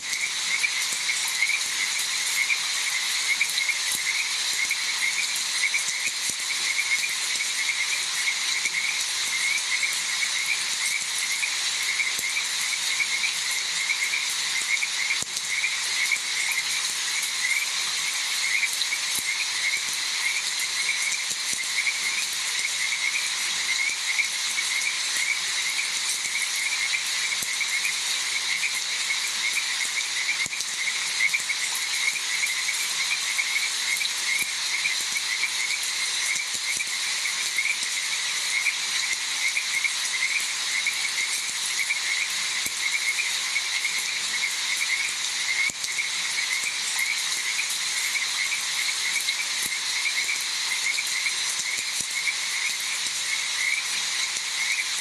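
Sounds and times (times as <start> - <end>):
frogs croaking: 0.0 - 55.0
rain hissing: 0.0 - 55.0.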